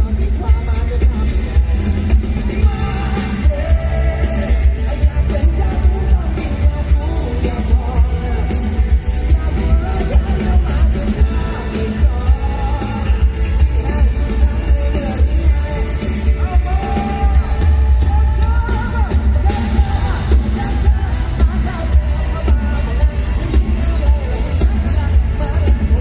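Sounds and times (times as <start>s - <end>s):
live pop-rock band playing: 0.0s - 26.0s
person singing: 0.0s - 26.0s
steady drum beat: 0.0s - 26.0s.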